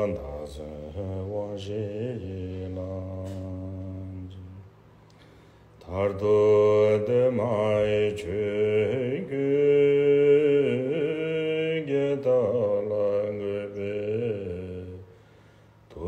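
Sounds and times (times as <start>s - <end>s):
man chanting a prayer: 0.0s - 4.6s, 5.8s - 15.0s
steady low tone: 0.0s - 16.0s.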